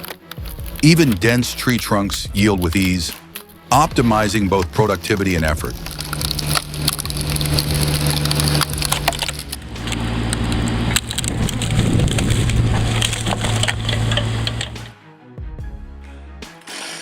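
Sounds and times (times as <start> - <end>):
excavator engine running: 0.0 - 14.9
wood cracking and splintering: 0.0 - 14.9.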